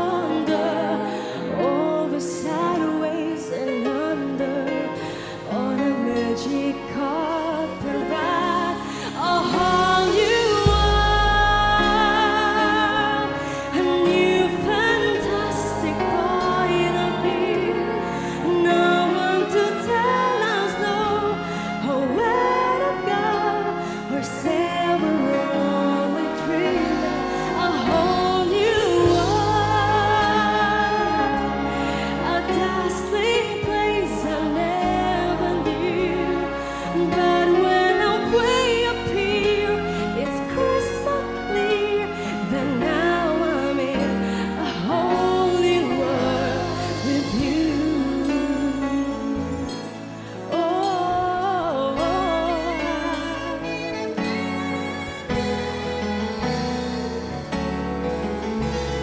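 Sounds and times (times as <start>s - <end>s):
song with singing voice: 0.0s - 54.3s.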